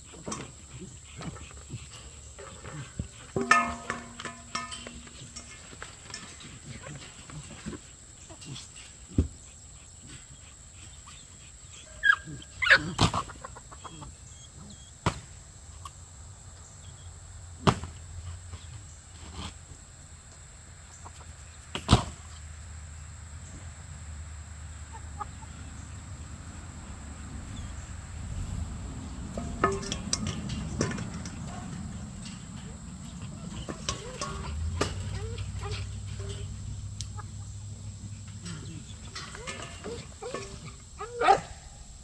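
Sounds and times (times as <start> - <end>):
chickens clucking: 0.0 - 15.2, 20.8 - 22.4, 24.4 - 42.0.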